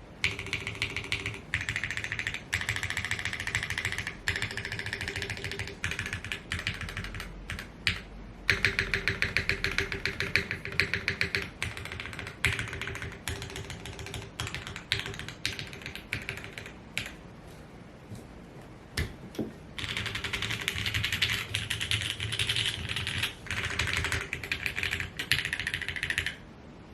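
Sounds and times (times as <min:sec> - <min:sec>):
mechanical keyboard typing: 0:00.2 - 0:17.2, 0:19.8 - 0:26.4.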